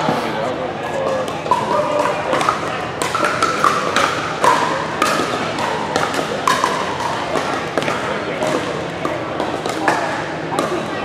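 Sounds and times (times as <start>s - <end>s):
paddles striking plastic ball: 1.1s - 10.9s.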